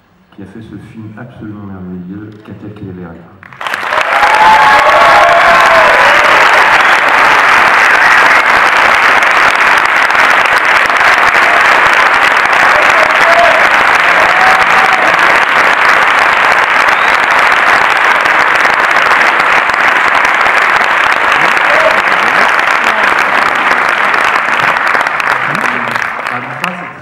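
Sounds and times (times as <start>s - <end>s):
large audience applauding: 3.4s - 27.0s.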